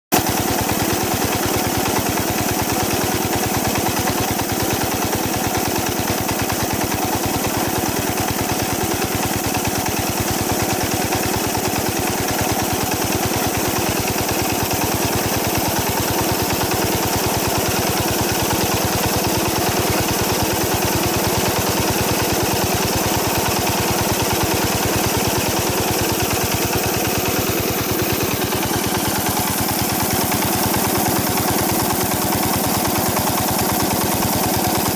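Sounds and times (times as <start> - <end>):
small diesel engine running: 0.1 - 34.9
water gushing from pipe: 0.2 - 34.9.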